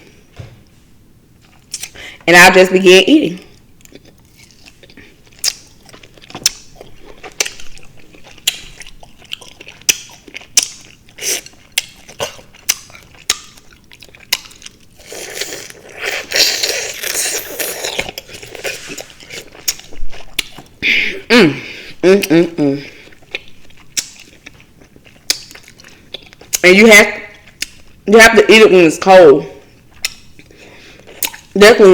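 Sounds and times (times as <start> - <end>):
person chewing juicy fruit: 0.0 - 2.2, 3.4 - 28.1, 29.6 - 31.6.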